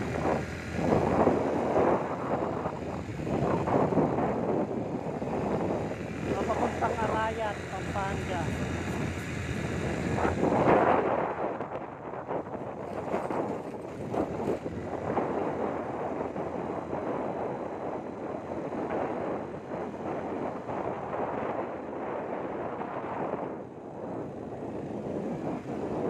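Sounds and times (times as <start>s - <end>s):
vehicle noise rushing: 0.0s - 26.0s
wind buffeting microphone: 0.0s - 26.0s.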